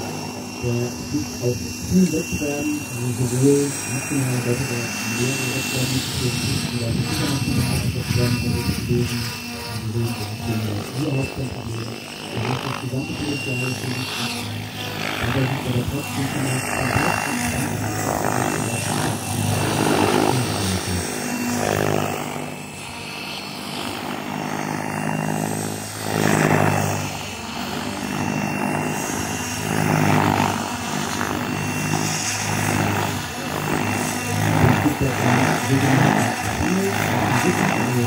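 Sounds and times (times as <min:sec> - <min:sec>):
model helicopter rotor running: 0:00.0 - 0:38.0.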